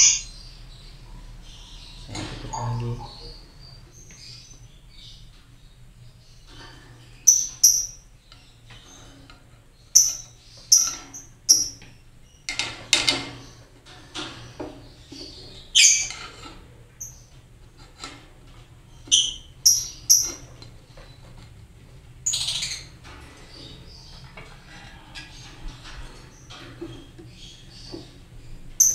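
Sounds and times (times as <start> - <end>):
lovebirds chirping: 0.0 - 12.5, 13.3 - 16.4, 18.8 - 21.3, 22.2 - 28.9.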